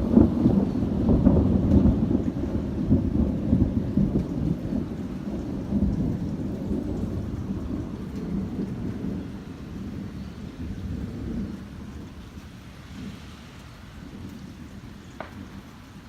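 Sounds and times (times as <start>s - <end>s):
rain falling: 0.0s - 16.0s
thunder rumbling: 0.0s - 16.0s.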